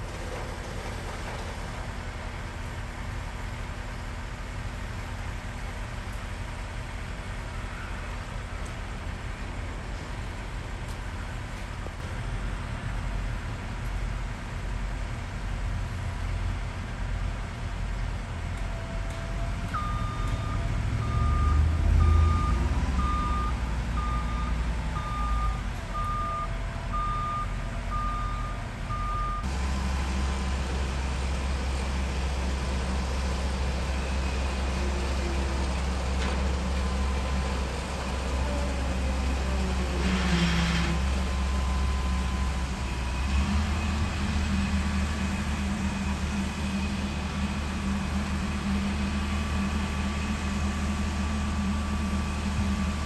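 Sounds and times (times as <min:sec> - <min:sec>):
low engine rumble: 0:00.0 - 0:53.0.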